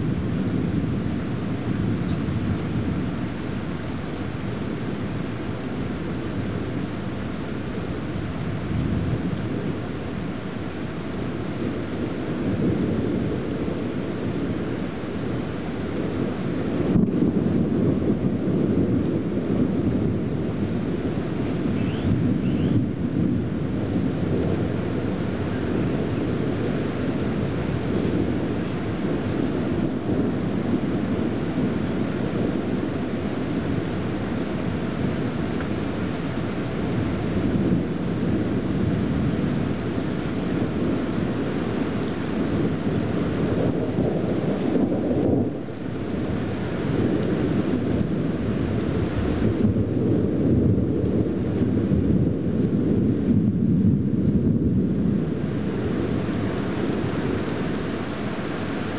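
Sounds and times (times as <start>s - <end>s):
rain falling: 0.0s - 58.9s
rumble of thunder: 0.0s - 58.9s.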